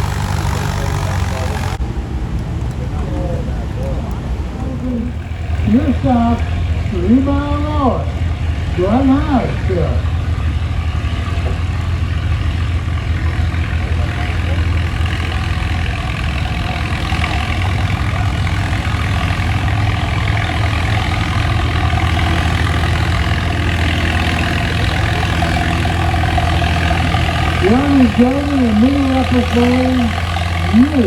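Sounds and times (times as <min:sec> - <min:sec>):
tractor engine running hard: 0:00.0 - 0:31.0.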